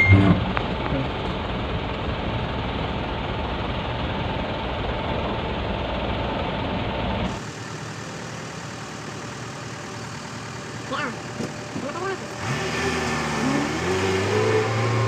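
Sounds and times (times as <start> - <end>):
diesel truck engine idling: 0.0 - 12.6.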